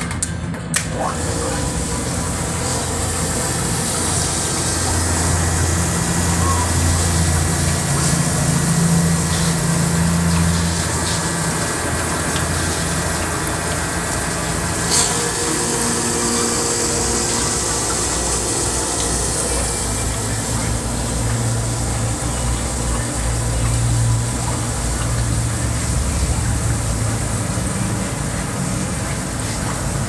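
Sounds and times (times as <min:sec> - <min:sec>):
dishwasher pump motor hum: 0:00.7 - 0:30.0
water spraying inside machine: 0:00.8 - 0:30.0.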